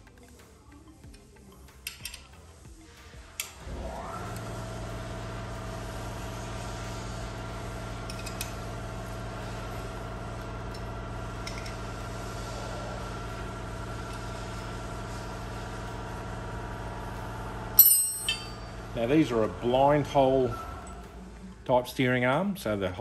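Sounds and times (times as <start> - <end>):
motor humming: 2.7 - 21.6.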